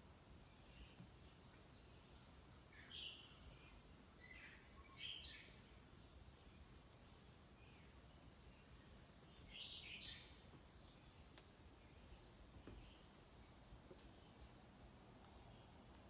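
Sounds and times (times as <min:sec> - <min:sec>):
faint bird chirps: 0:00.3 - 0:14.6.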